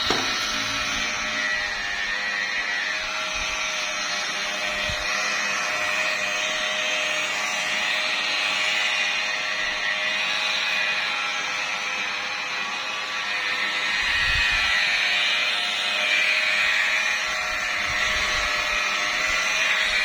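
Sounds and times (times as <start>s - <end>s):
polishing machine motor whine: 0.0s - 20.0s.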